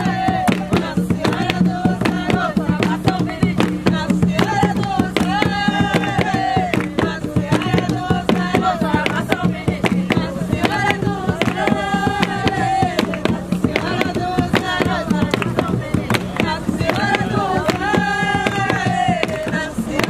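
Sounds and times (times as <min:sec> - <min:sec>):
hand drums beating fast rhythm: 0:00.0 - 0:20.0
voices singing held phrases: 0:00.0 - 0:20.0.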